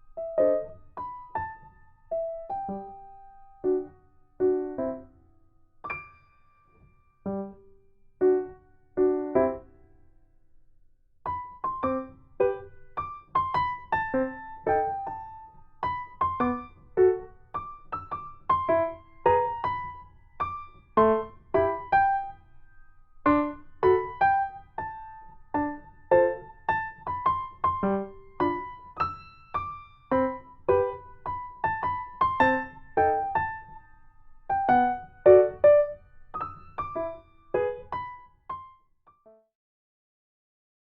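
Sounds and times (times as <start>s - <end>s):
piano music: 0.0s - 5.2s, 7.2s - 9.8s, 11.3s - 38.8s.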